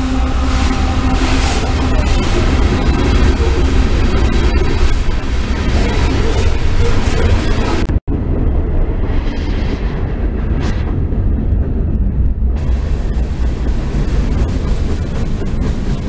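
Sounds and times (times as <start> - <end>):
rattling train cars: 0.0 - 9.3, 9.9 - 16.0
freight train rolling past: 0.0 - 16.0.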